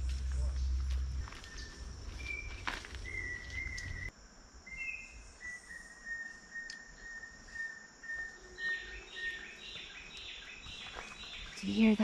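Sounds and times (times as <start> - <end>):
high insect hiss: 0.0 - 12.0.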